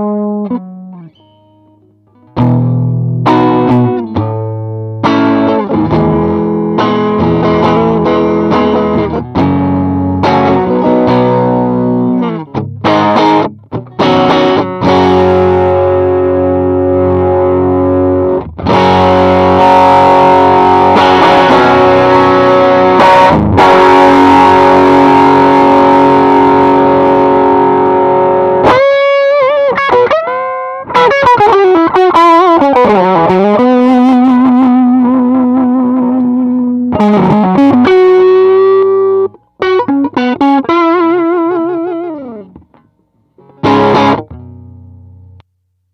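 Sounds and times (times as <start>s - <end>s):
overdriven electric guitar: 0.0s - 45.7s.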